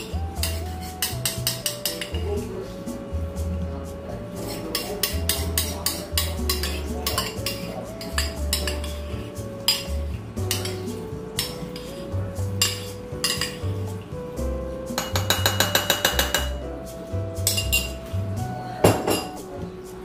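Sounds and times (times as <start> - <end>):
slow background music: 0.0 - 20.0
utensils and dishes clinking: 0.0 - 20.0.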